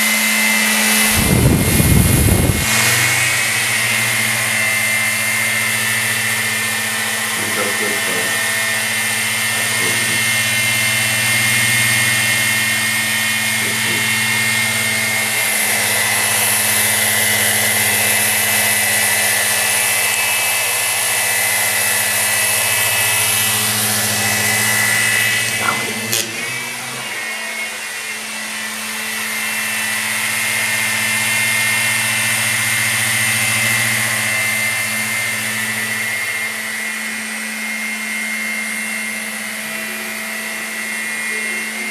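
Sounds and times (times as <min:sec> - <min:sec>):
rc helicopter whine and buzz: 0:00.0 - 0:41.9.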